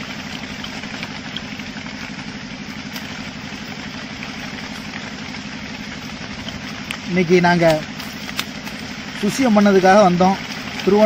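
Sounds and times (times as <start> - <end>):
small engine pulsing: 0.0 - 11.0.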